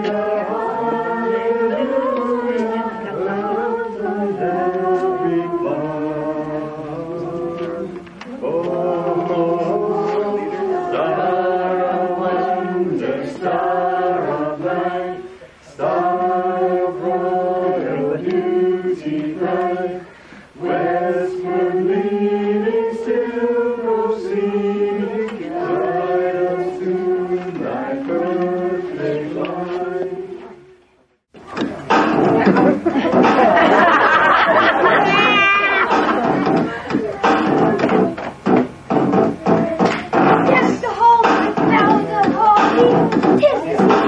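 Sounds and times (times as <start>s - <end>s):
children and adults singing a carol: 0.0s - 30.8s, 31.6s - 38.3s, 39.2s - 44.0s.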